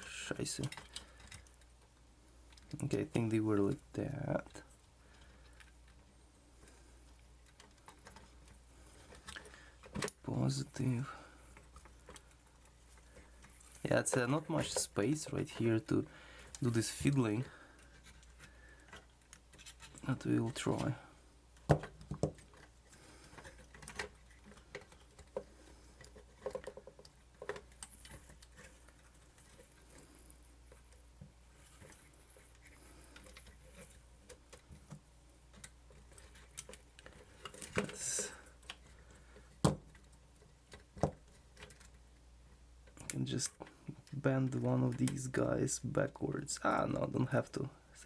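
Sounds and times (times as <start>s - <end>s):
hands fiddling with small parts: 0.0s - 48.0s.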